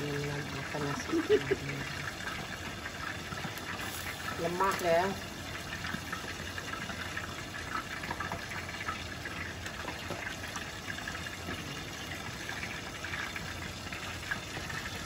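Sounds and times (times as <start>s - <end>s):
water heating on gas burner hiss: 0.0s - 15.0s.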